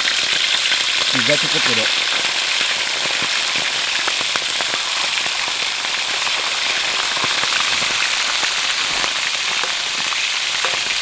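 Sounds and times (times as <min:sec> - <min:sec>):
deep-frying sizzle with crackling pops: 0:00.0 - 0:11.0.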